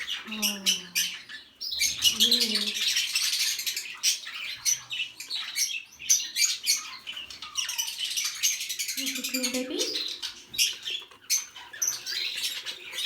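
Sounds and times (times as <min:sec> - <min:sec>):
budgerigars chirping and chattering: 0:00.0 - 0:13.0.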